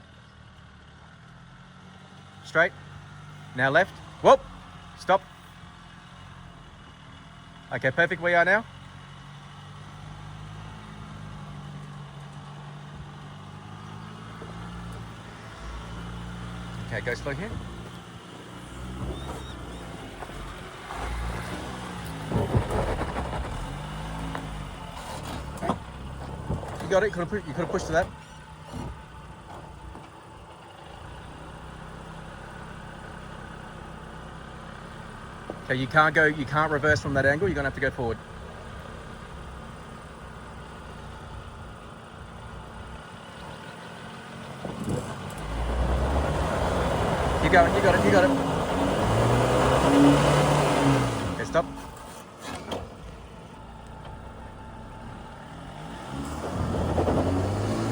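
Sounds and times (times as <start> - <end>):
vehicle engine at low revs: 0.0 - 57.9
tyres crunching over rough ground: 9.7 - 57.9.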